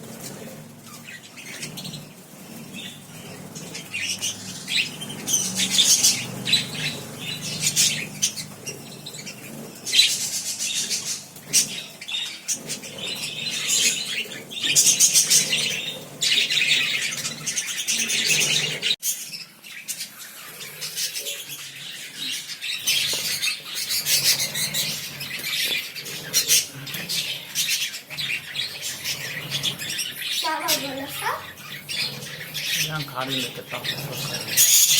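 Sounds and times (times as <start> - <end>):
lovebirds chattering and chirping: 0.0 - 34.9.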